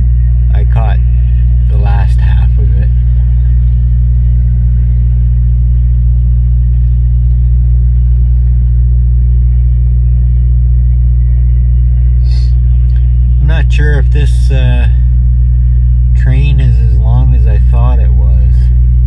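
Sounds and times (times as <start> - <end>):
car driving drone from inside: 0.0 - 19.0.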